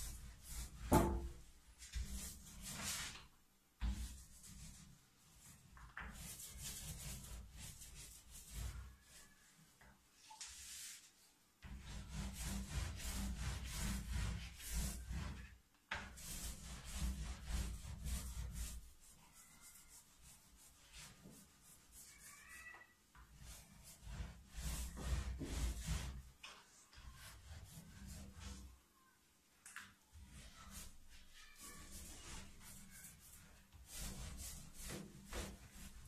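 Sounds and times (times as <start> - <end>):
brush scrubbing paper: 0.0 - 9.6, 10.3 - 28.8, 30.1 - 36.0.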